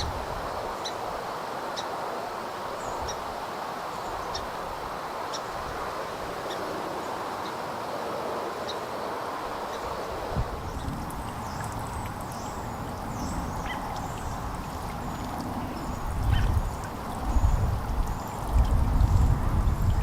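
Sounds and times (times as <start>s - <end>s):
outdoor hiss: 0.0s - 20.0s
songbirds chipping and twittering: 0.7s - 20.0s.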